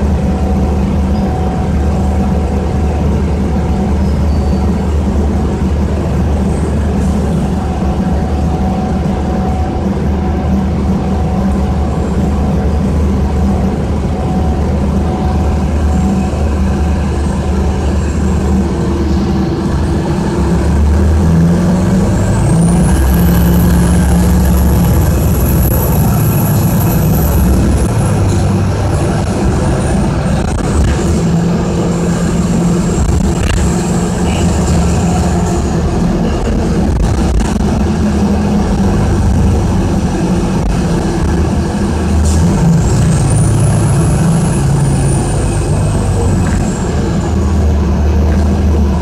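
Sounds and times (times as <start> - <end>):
bus diesel engine running: 0.0 - 49.0
high whine: 0.0 - 49.0.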